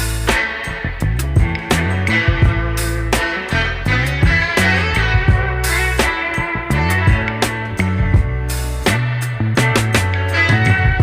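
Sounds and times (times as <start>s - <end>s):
instrumental music with guitar: 0.0s - 11.0s
steady drum beat: 0.0s - 11.0s.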